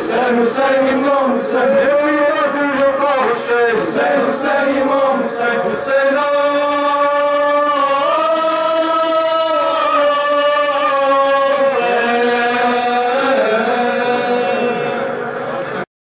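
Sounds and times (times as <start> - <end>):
men chanting a lament: 0.0 - 15.6.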